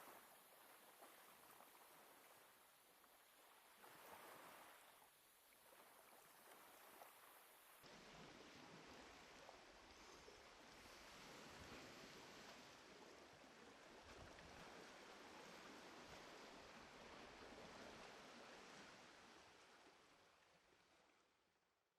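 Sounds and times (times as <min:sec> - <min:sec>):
faint sea waves washing: 0:00.0 - 0:21.2.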